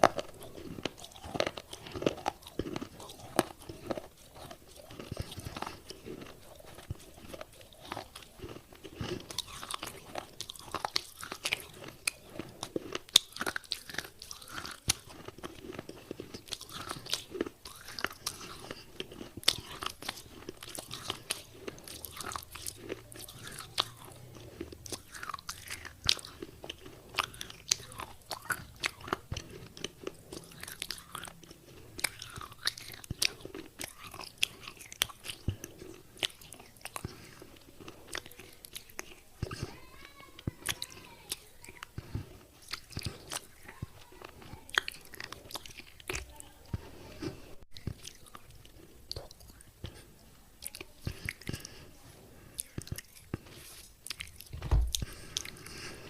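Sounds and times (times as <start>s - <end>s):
mouth crunching clay: 0.0s - 56.0s.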